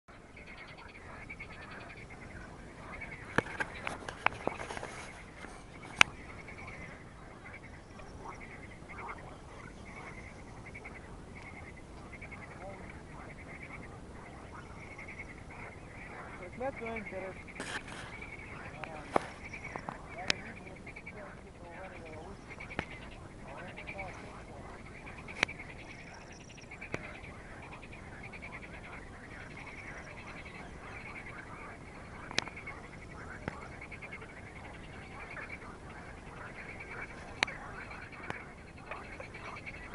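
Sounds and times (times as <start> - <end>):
frogs calling: 0.1 - 39.9.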